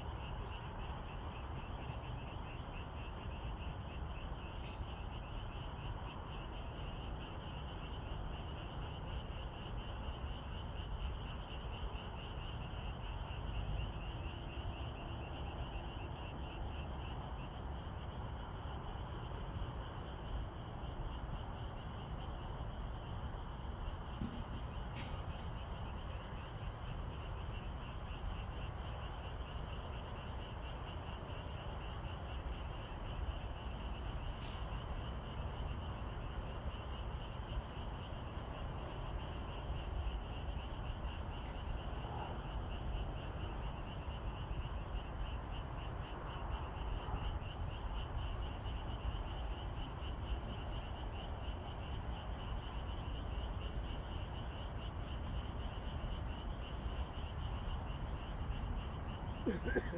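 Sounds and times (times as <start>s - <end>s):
frogs trilling: 10.8s - 59.9s.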